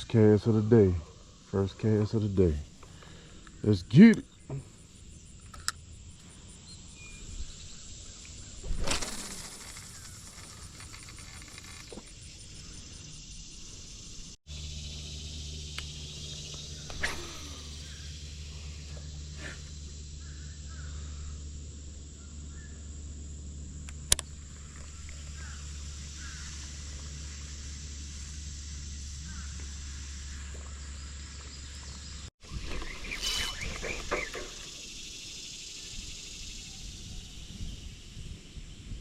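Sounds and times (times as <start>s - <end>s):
steady low hum: 0.0s - 35.6s
pond ambience: 0.0s - 37.3s.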